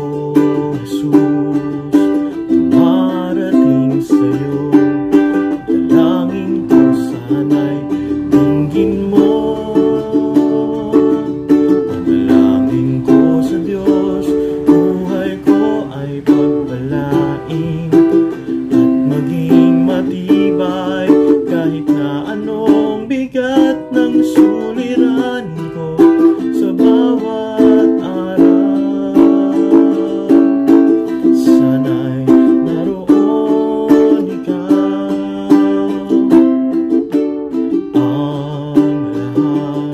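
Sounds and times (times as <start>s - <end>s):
man singing low: 0.0s - 36.6s, 37.9s - 39.9s
ukulele strumming chords: 0.0s - 39.9s.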